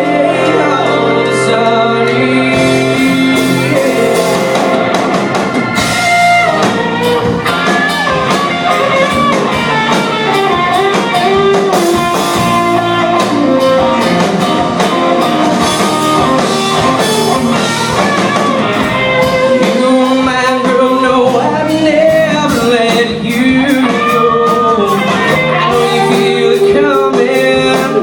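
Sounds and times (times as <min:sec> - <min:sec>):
country band playing: 0:00.0 - 0:28.0
guitar melody: 0:00.0 - 0:28.0
drum kit steady beat: 0:01.9 - 0:28.0.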